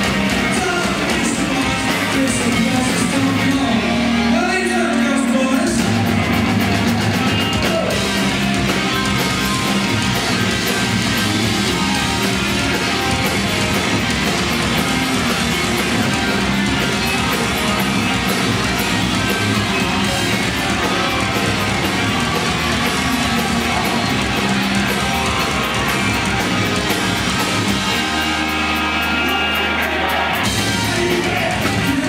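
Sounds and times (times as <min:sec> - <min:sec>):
drum kit: 0:00.0 - 0:32.0
electric guitars: 0:00.0 - 0:32.0.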